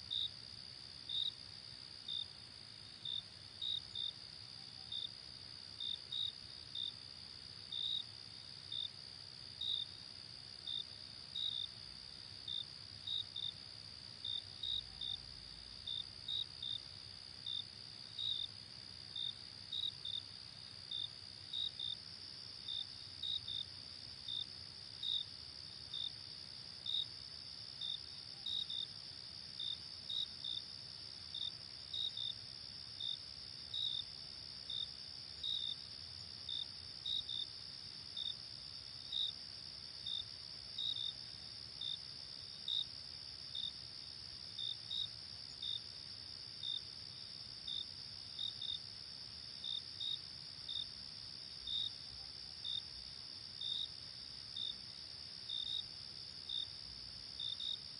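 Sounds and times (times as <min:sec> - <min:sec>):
cricket chirping: 0:00.0 - 0:57.9.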